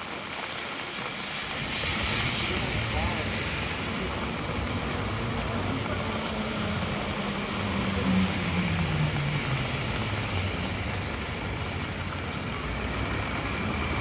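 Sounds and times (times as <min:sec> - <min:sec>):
heavy rain: 0:00.0 - 0:14.0
traffic on wet street: 0:00.0 - 0:14.0.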